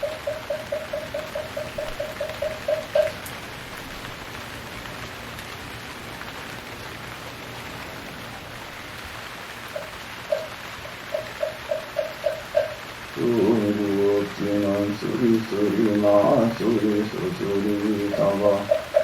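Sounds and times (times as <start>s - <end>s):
rain-like hiss: 0.0s - 19.0s.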